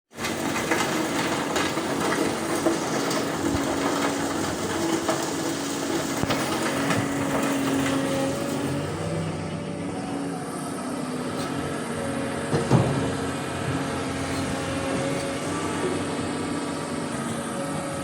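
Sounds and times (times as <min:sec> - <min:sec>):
excavator diesel engine running: 0:00.2 - 0:18.0.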